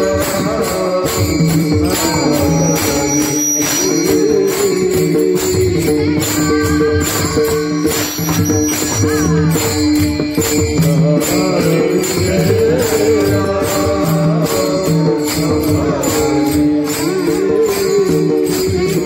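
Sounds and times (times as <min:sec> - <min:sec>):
hand cymbals clashing: 0:00.0 - 0:19.0
person singing: 0:00.0 - 0:19.0.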